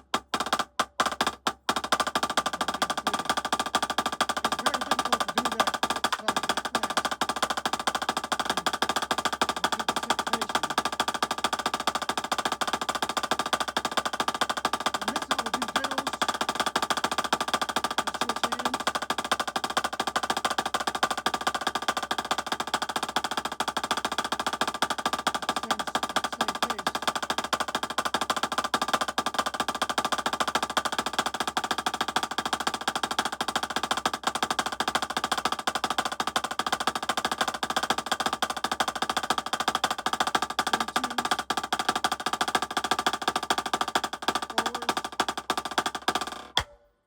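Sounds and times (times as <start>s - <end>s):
snare drum fast strokes: 0.0s - 47.0s.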